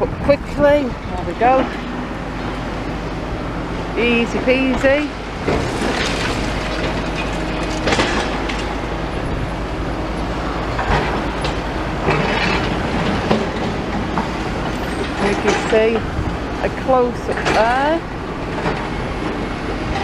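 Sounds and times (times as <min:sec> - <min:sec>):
excavator diesel engines running: 0:00.0 - 0:20.0.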